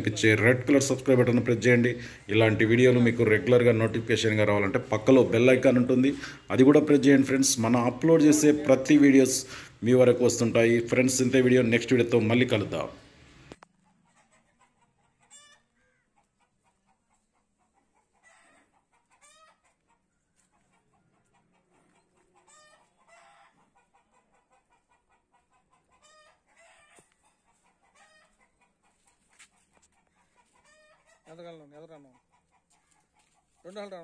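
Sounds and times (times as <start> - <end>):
faint chickens clucking: 0.0 - 34.0.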